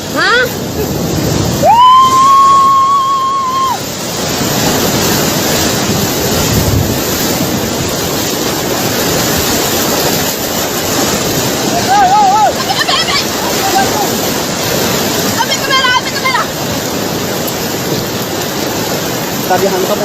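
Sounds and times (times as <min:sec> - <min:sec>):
rushing water surging: 0:00.0 - 0:20.0.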